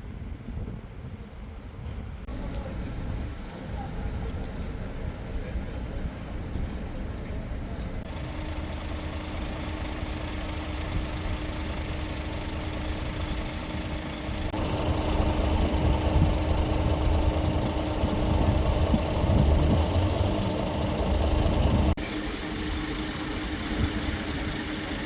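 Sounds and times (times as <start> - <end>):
engine running with low rumble: 0.2 - 25.0.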